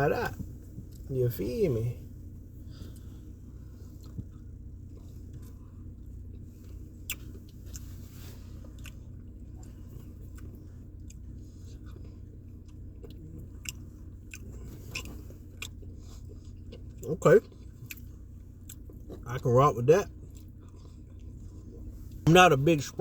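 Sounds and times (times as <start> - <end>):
steady low hum: 0.0 - 23.0
person chewing: 2.2 - 19.4, 20.1 - 22.2.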